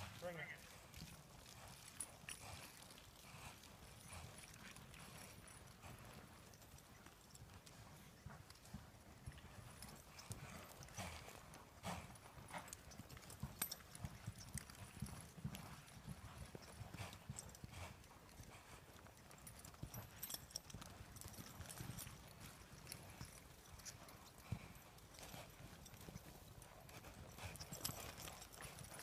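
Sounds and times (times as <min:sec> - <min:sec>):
hoofbeats on soft dirt: 0:00.0 - 0:29.0.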